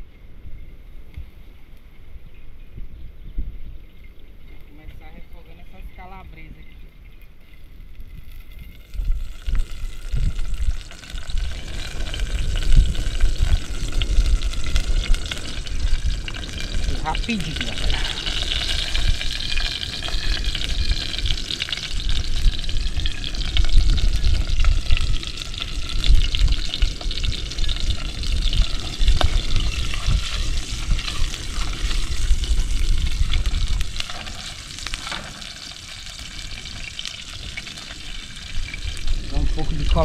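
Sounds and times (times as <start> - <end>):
oil sizzling in a pan: 7.6 - 40.0.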